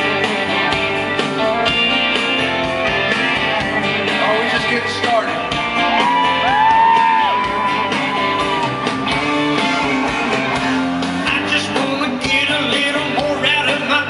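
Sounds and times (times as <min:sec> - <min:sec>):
live country band playing: 0:00.0 - 0:14.0.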